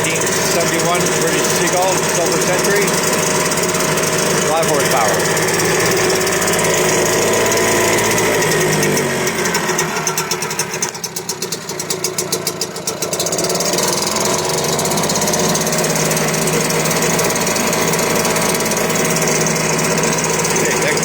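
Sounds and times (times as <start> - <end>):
two-stroke outboard engine running: 0.0 - 21.0.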